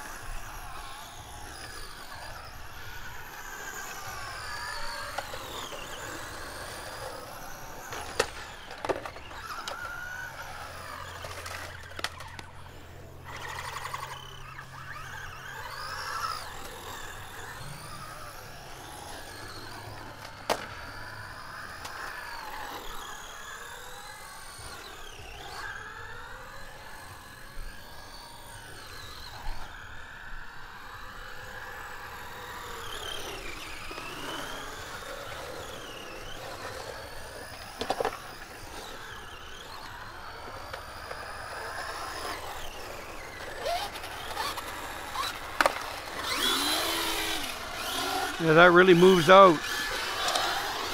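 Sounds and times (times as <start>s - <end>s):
electric motors whining: 0.0s - 50.9s.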